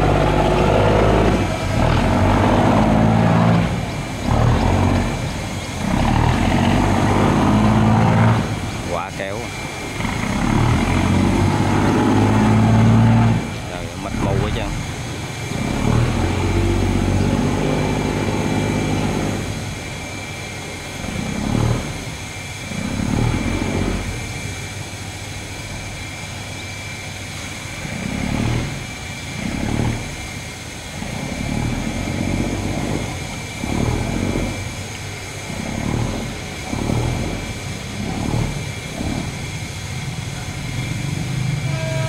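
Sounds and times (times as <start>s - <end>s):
barge engine hum: 0.0s - 42.0s.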